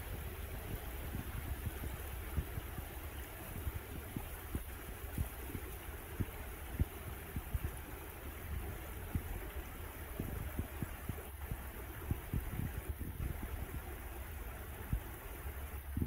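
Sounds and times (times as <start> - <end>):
stream running over stones: 0.0 - 16.0
water gurgles and plops: 0.0 - 16.0.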